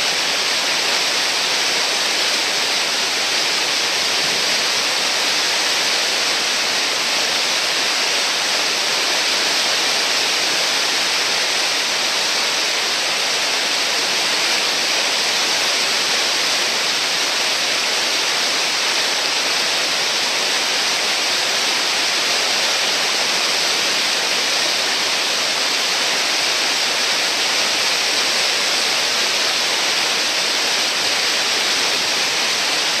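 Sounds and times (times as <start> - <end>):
river rapid rushing: 0.0 - 33.0.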